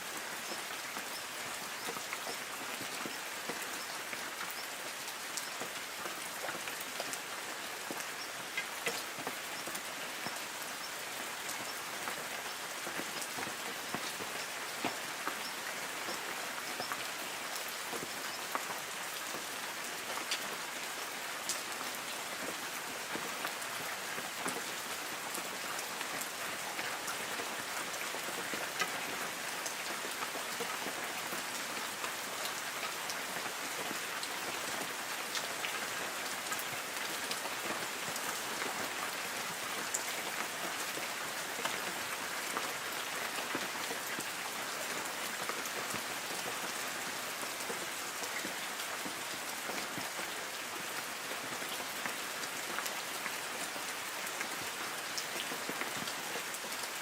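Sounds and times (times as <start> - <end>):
light rain on trees: 0.0 - 57.0.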